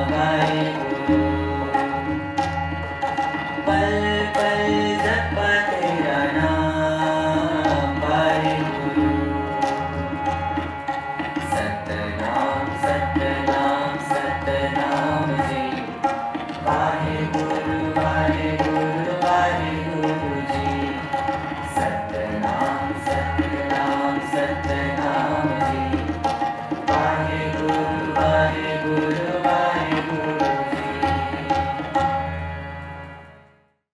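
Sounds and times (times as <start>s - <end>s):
tabla drumming: 0.0s - 33.3s
harmonium chords: 0.0s - 33.7s.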